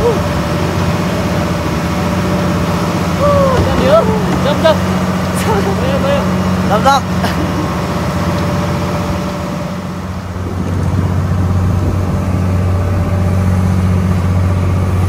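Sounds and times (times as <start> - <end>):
large engine humming: 0.0 - 15.0.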